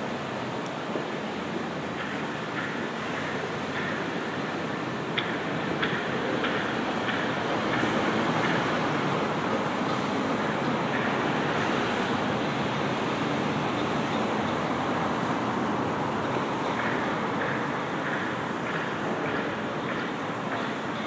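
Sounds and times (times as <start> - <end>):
city ambience rushing noise: 0.0 - 21.0.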